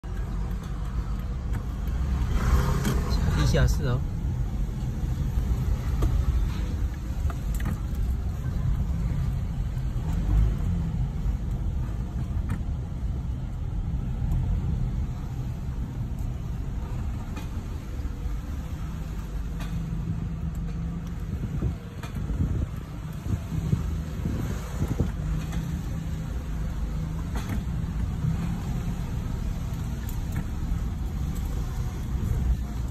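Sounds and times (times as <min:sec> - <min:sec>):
car engine low rumble: 0:00.0 - 0:32.9
faint irregular clicks: 0:00.0 - 0:32.9.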